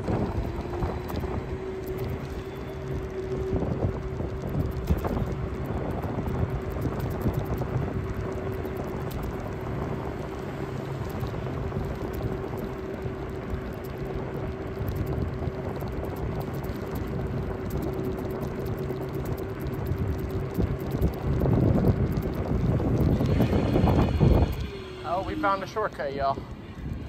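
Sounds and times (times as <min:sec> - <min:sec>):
steady motor hum: 0:00.0 - 0:27.0
wheels rumbling on road: 0:00.0 - 0:27.0
wind buffeting microphone: 0:00.0 - 0:27.0.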